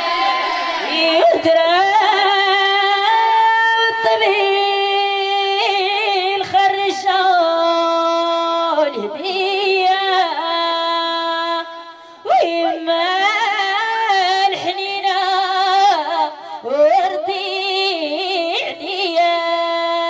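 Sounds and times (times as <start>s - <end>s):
woman singing a chant: 0.0s - 20.0s.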